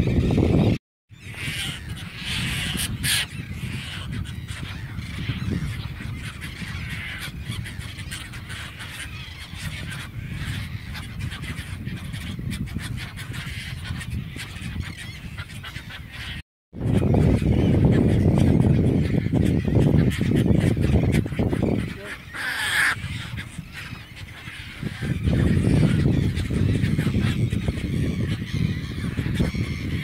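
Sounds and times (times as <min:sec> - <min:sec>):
seabirds calling: 0:00.0 - 0:30.0
wind rumbling on microphone: 0:00.0 - 0:30.0.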